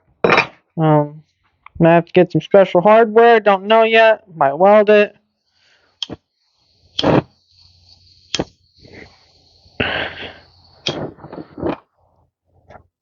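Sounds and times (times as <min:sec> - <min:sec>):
faint steady hiss: 0:00.8 - 0:12.8.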